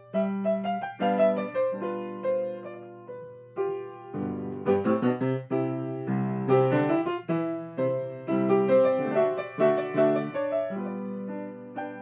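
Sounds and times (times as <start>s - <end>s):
grand piano improvising: 0.0s - 12.0s.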